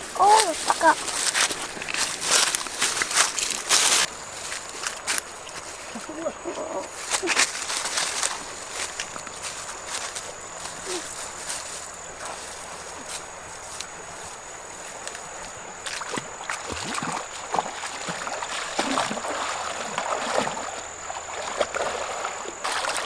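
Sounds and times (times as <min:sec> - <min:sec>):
feet wading and splashing: 0:00.0 - 0:23.0
shallow river flowing: 0:00.0 - 0:23.0.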